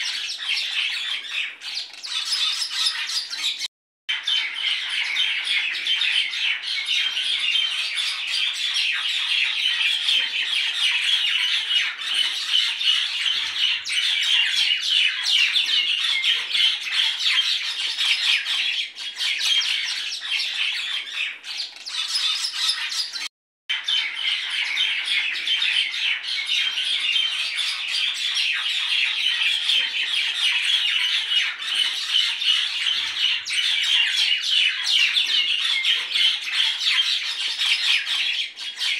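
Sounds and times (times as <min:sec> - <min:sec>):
birds chattering and squawking: 0:00.0 - 0:38.9.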